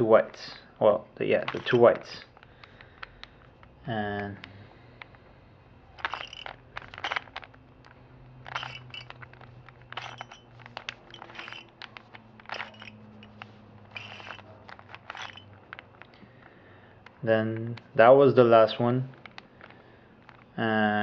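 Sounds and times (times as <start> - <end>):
puzzle cube twisting clicks: 1.4 - 5.3, 5.9 - 18.0, 19.0 - 20.6.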